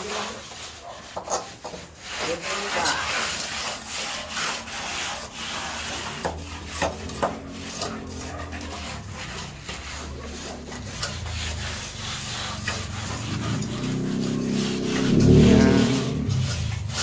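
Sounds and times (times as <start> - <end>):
trowel scraping wet plaster: 0.0 - 17.0.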